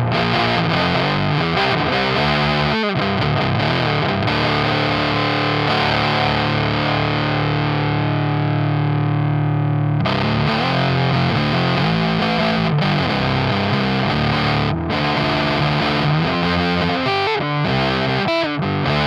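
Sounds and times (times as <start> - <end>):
fuzzed electric guitar: 0.0 - 19.0.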